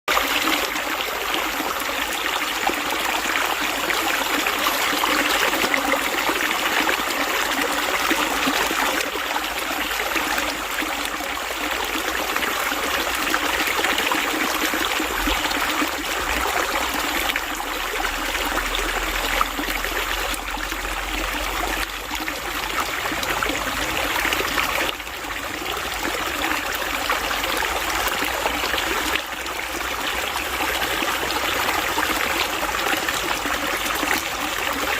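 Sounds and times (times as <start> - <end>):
water flowing and trickling: 0.1 - 34.9.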